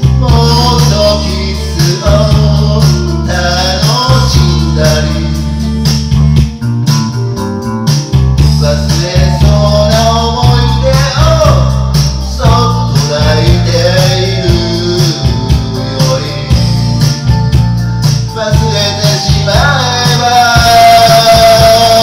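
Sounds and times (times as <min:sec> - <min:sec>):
man singing into microphone: 0:00.0 - 0:05.7, 0:08.6 - 0:17.0, 0:18.3 - 0:22.0
backing track with beat: 0:00.0 - 0:22.0.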